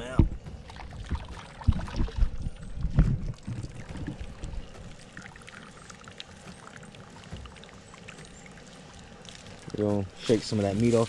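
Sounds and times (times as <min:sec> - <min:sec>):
water pouring and trickling: 0:00.0 - 0:11.0
water splashing and sloshing: 0:00.0 - 0:11.0.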